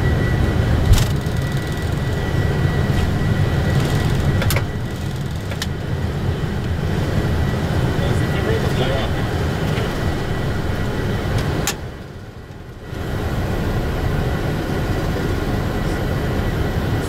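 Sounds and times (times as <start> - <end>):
aircraft engine and airflow rumble: 0.0 - 17.0.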